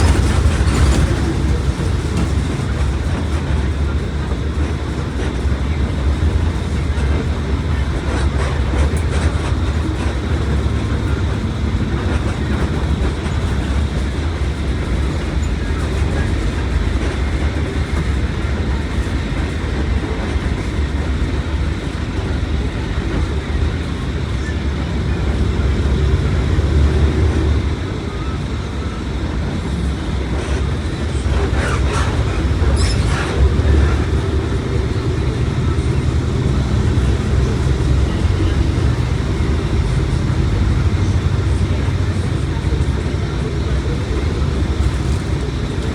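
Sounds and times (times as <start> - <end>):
bus engine rumble: 0.0 - 45.9
road noise: 0.0 - 45.9.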